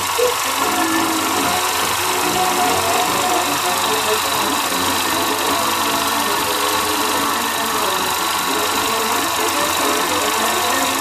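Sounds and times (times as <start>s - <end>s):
film projector clattering: 0.0s - 11.0s.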